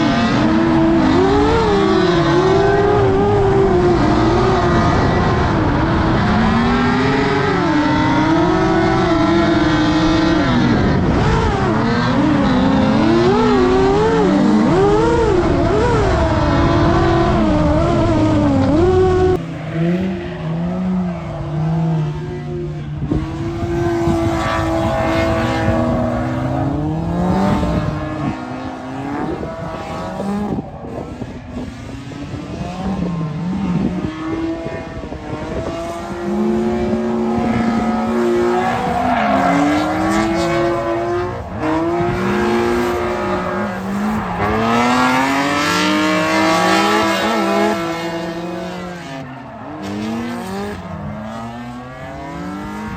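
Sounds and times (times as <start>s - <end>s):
car engine revving: 0.0s - 52.9s
tyre noise: 10.2s - 52.9s.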